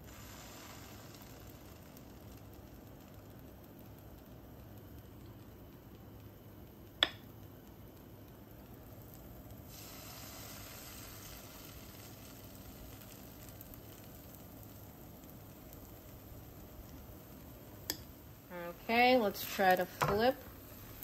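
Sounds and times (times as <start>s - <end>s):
batter sizzling in frying pan: 0.0s - 21.0s.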